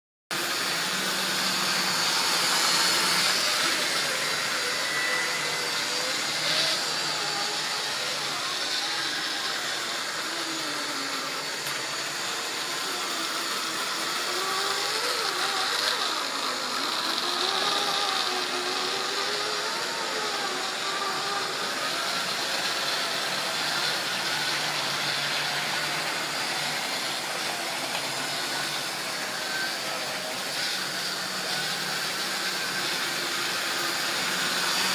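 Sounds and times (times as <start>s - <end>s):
small electric motor whine: 0.4s - 34.9s.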